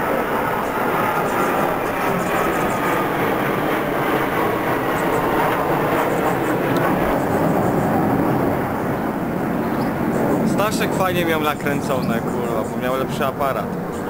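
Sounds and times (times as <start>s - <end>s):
jet engines flying overhead: 0.0s - 14.0s.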